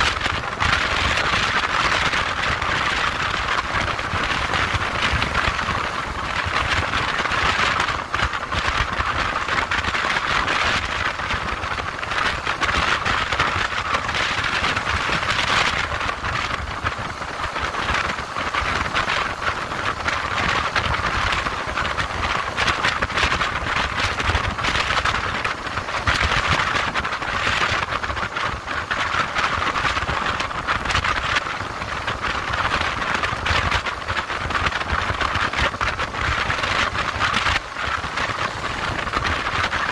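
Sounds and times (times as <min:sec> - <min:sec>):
motorcycle road noise: 0:00.0 - 0:39.9
rushing wind: 0:00.0 - 0:39.9.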